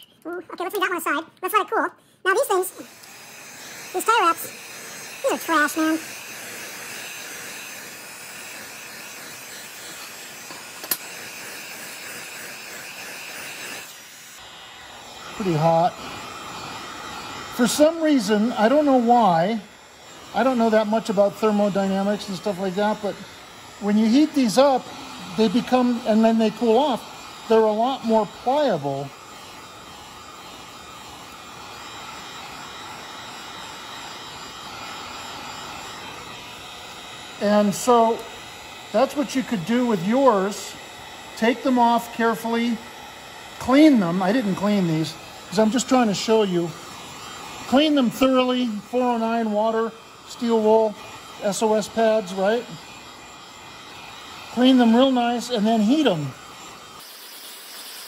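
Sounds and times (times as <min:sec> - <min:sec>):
heat gun blowing hiss: 0:00.6 - 0:58.0.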